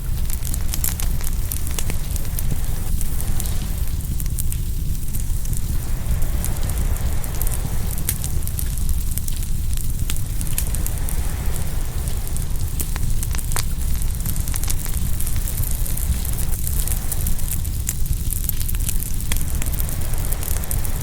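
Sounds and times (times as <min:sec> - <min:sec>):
ocean surf rumble: 0:00.0 - 0:21.0
wood fire crackling and popping: 0:00.0 - 0:21.0.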